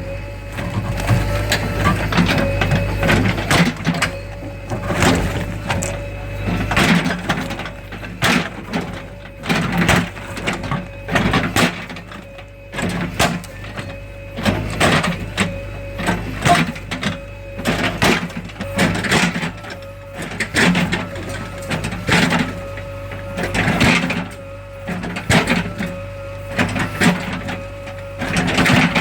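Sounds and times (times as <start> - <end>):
diesel engine running: 0.0 - 29.0
engine whine: 0.0 - 29.0.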